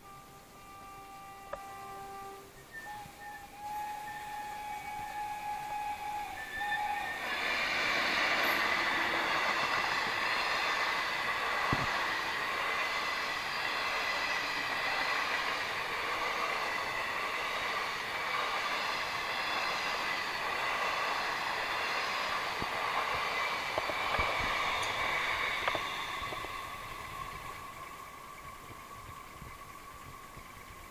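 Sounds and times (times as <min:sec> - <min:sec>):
train wheels rushing on rails: 0:00.0 - 0:30.9.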